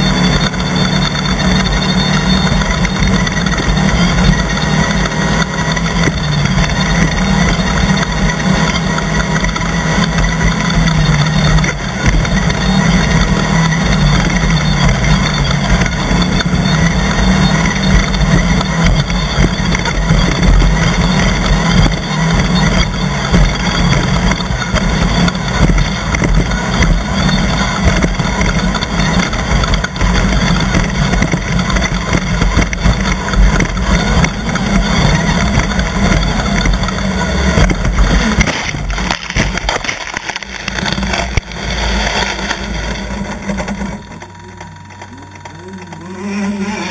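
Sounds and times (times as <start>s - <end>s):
race car engines running: 0.0s - 46.9s.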